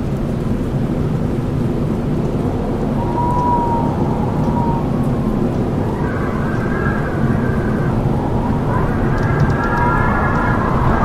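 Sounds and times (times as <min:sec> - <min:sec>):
strong wind roaring: 0:00.3 - 0:11.0
high howling wind whistle: 0:00.7 - 0:11.0.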